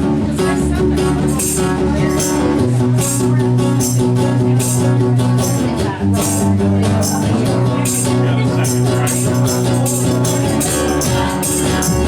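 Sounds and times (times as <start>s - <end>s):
held low bass notes: 0.0s - 12.0s
strummed guitar: 0.0s - 12.0s.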